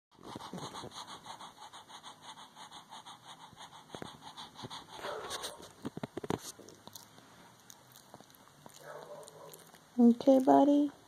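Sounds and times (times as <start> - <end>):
small dog panting: 0.1 - 9.9.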